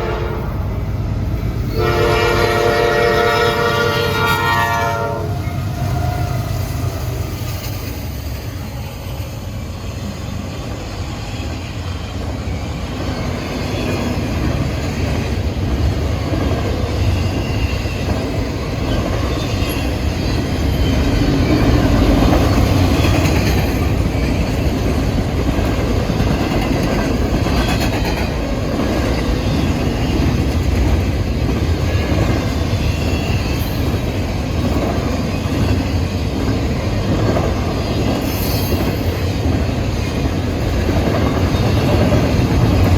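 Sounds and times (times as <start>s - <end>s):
train cars rumbling past: 0.0s - 42.9s.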